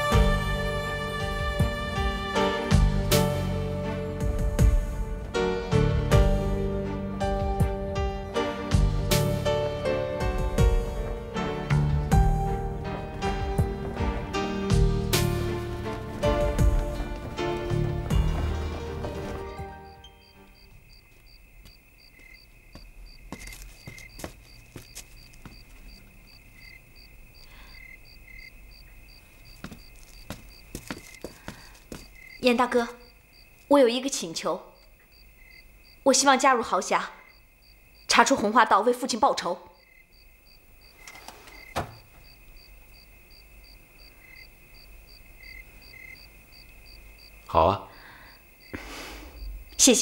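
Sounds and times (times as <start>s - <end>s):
crickets chirping: 0.0s - 50.0s
faint high insect trill: 9.2s - 50.0s.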